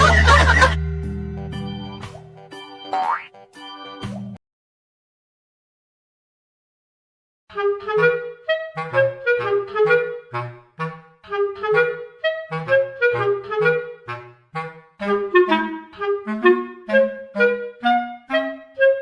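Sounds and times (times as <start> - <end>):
light bouncy background music: 0.0 - 4.4, 7.5 - 19.0.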